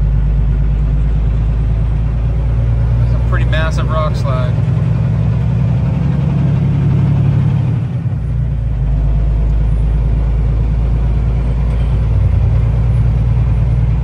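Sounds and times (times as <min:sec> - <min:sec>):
road noise: 0:00.0 - 0:14.0
truck diesel engine droning: 0:00.0 - 0:14.0.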